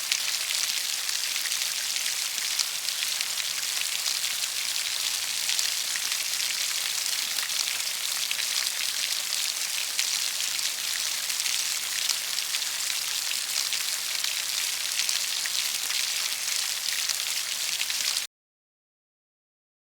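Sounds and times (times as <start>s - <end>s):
steady rainfall: 0.0s - 18.3s.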